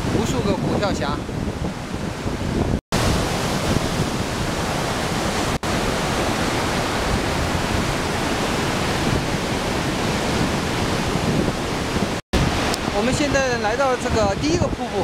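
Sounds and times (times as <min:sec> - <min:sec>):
river rushing over boulders: 0:00.0 - 0:15.0.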